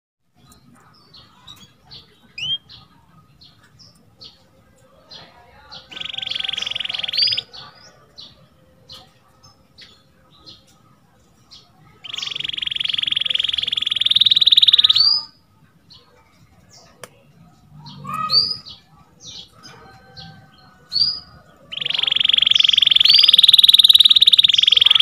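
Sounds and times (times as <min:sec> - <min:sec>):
canary singing: 0:00.4 - 0:15.6, 0:17.6 - 0:25.0.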